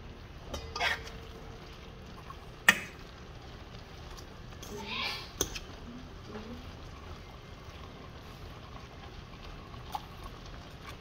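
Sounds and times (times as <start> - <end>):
food simmering bubbling hiss: 0.0 - 11.0.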